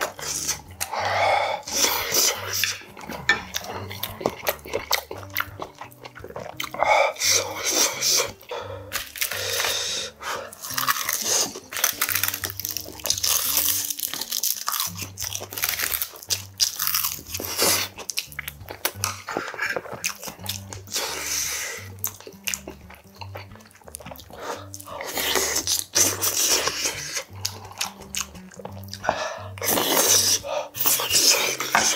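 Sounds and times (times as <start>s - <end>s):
close chewing and crunching: 0.0s - 31.9s
wet mouth sounds: 0.0s - 31.9s.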